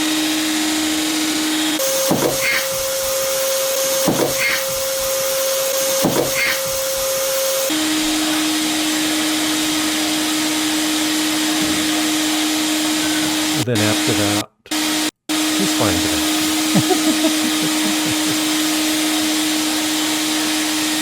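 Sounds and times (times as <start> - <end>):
vacuum cleaner motor running: 0.0 - 21.0.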